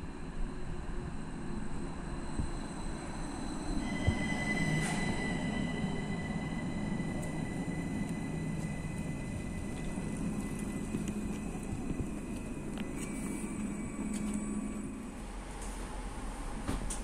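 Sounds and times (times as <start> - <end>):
high-pitched train squeal: 0.0 - 16.1
train motors humming: 0.0 - 17.0
tram braking to a stop: 0.0 - 17.0.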